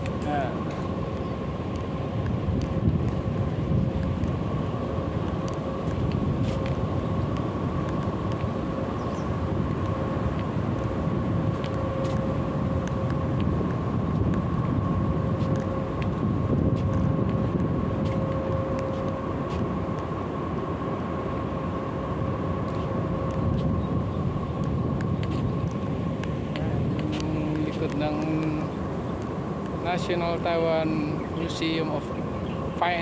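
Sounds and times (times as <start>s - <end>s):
city traffic rumble: 0.0s - 33.0s
constant mechanical hum: 0.0s - 33.0s.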